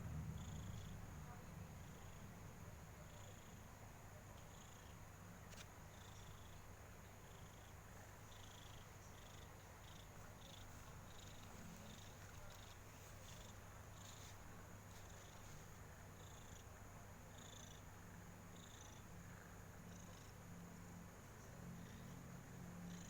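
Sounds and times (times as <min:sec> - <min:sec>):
cat purring: 0:00.0 - 0:20.6, 0:21.4 - 0:23.0.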